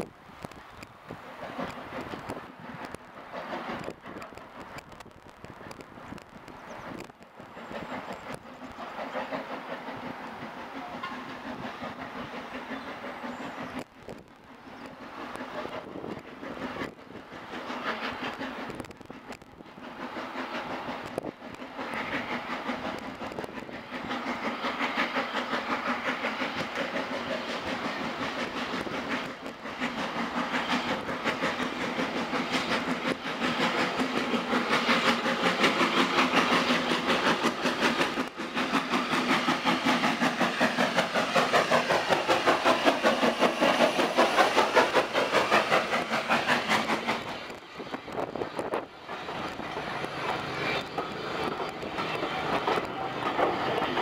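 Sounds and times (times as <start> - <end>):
steam locomotive and coaches running: 0.0 - 54.0.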